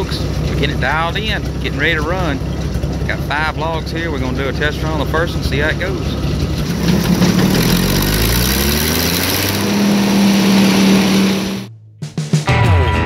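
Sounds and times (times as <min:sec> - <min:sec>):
sawmill engine running: 0:00.0 - 0:11.7.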